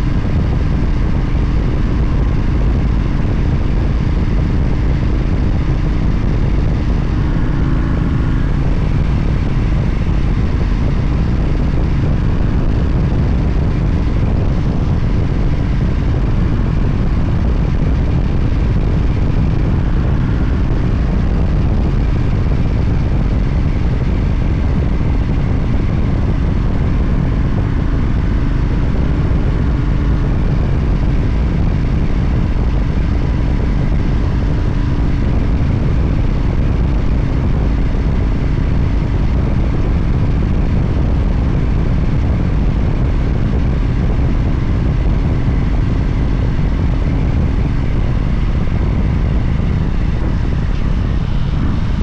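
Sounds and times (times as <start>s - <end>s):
motorcycle engine drone: 0.0s - 52.0s
wind rush on microphone: 0.0s - 52.0s.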